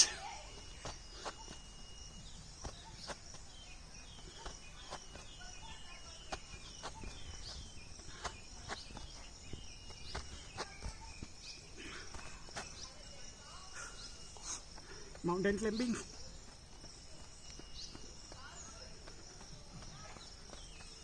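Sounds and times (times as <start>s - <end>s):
bird chirping: 0.0s - 21.0s
insects trilling: 0.0s - 21.0s.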